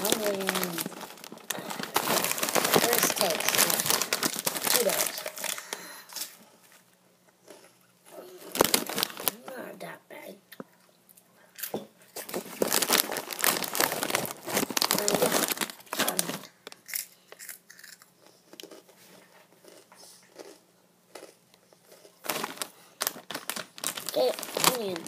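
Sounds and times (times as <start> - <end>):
snack bag crinkling: 0.0 - 6.9, 8.3 - 9.5, 11.6 - 25.0.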